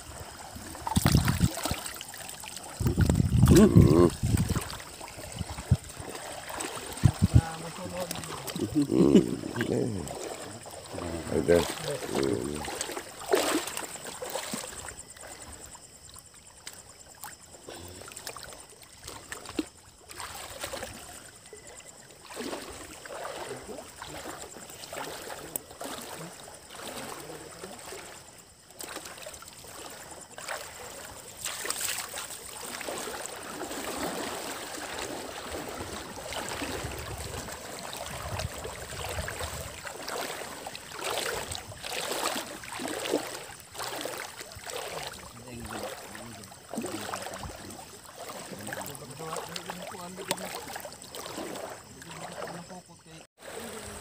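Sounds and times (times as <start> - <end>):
shallow water sloshing and splashing: 0.0 - 54.0.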